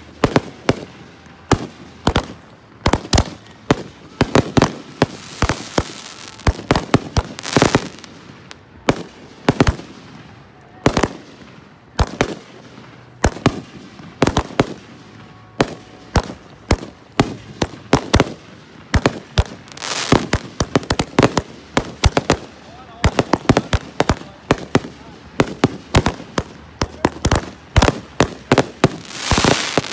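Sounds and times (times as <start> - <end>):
fireworks bangs: 0.0 - 29.9.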